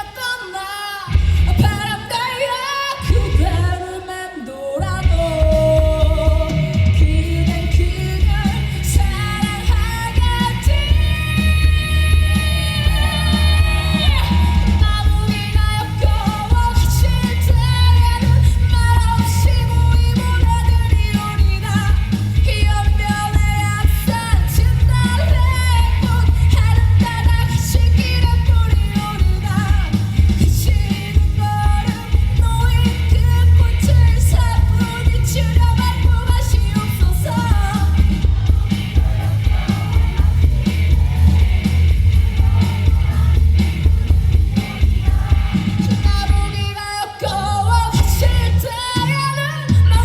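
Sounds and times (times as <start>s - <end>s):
live pop-rock band music: 0.0s - 50.0s
heavy bass beat: 5.0s - 50.0s.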